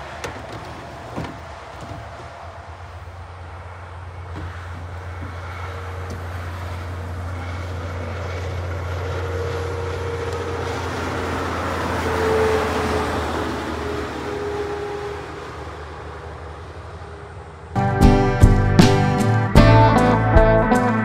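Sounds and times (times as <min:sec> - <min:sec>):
truck passing at speed: 0:00.0 - 0:21.0.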